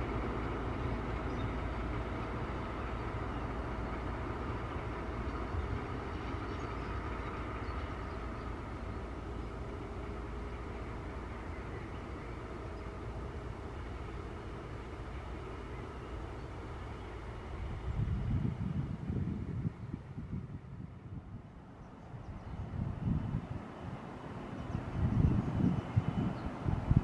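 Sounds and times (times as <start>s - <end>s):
diesel locomotive engine running: 0.0s - 27.0s.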